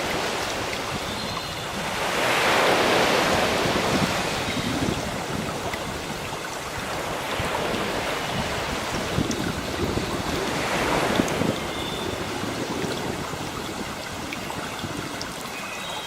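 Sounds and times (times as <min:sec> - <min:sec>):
ocean wave breaking: 0:00.0 - 0:13.7.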